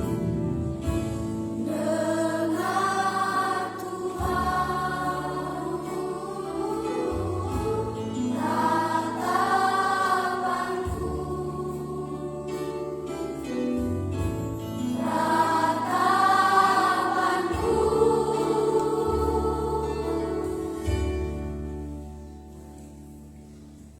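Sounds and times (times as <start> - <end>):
children's choir singing: 0.0 - 22.6.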